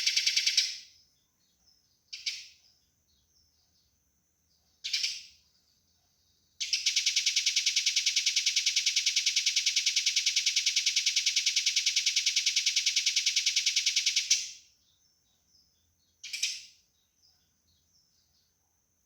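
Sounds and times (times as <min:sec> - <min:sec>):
sparrows chattering harshly: 0:00.0 - 0:03.7, 0:04.6 - 0:05.8, 0:06.6 - 0:18.1.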